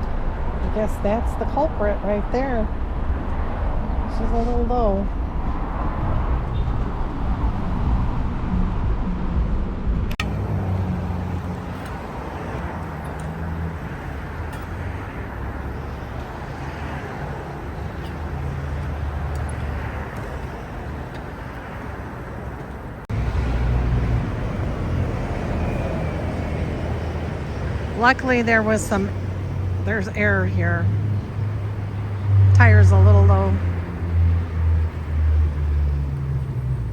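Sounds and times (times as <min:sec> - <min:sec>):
traffic rumble: 0:00.0 - 0:36.9.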